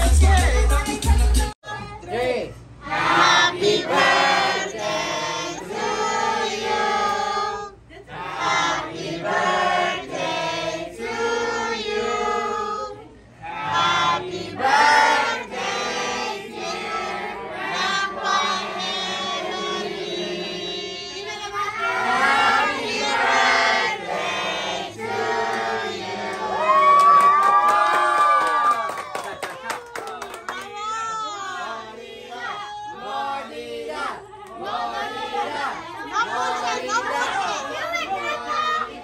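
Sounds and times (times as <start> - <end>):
group singing a birthday song: 0.0 - 26.8, 30.7 - 39.0.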